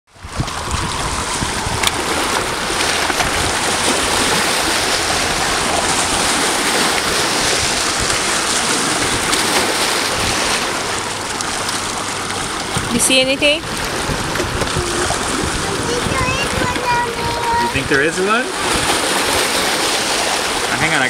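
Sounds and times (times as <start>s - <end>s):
water splashing against rocks: 0.1s - 21.0s
wind rumbling on microphone: 0.1s - 21.0s.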